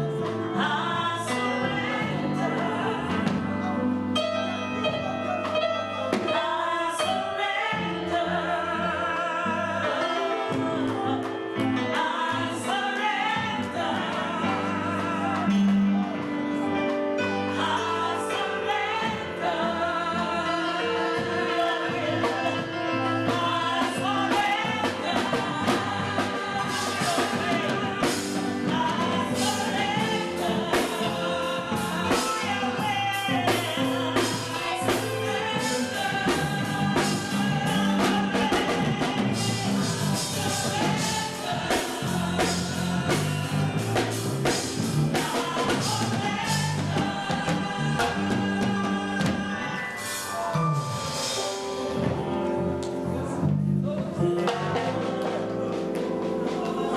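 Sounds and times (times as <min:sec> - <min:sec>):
gospel singing with band: 0:00.0 - 0:56.9.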